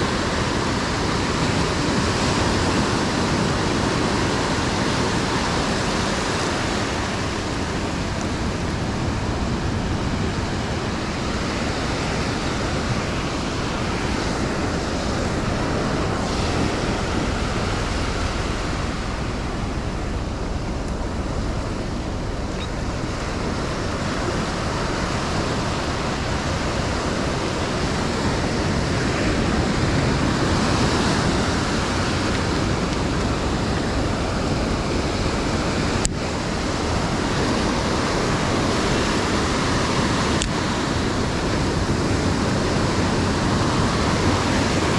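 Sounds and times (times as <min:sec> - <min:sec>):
ocean surf breaking: 0:00.0 - 0:44.9
wind rumbling on microphone: 0:00.0 - 0:44.9.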